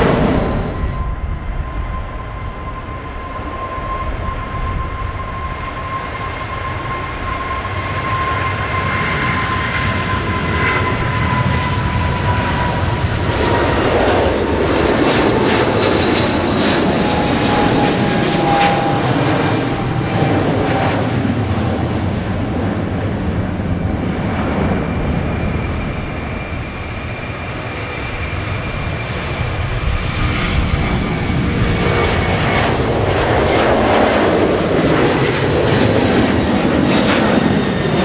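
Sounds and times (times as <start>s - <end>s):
jet engine crackling roar: 0.0s - 38.0s
jet engines whining: 0.0s - 38.0s.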